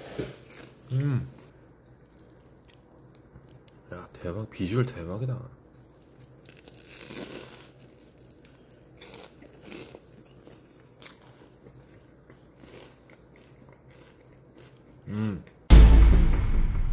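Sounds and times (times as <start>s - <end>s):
crunchy chewing: 0.3s - 4.2s, 5.8s - 15.7s.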